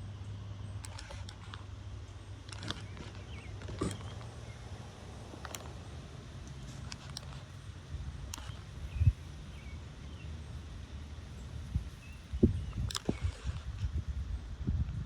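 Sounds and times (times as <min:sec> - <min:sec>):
sharp clicks: 0:00.8 - 0:01.7, 0:02.3 - 0:14.0
wind rumbling on microphone: 0:02.4 - 0:15.0.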